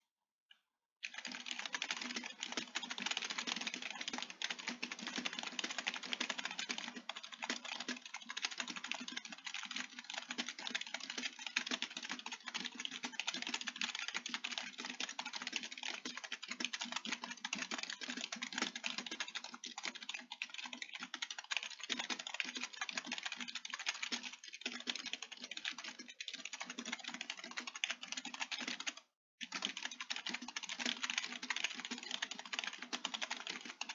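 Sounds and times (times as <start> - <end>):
fast typing on computer keyboard: 1.0 - 33.9.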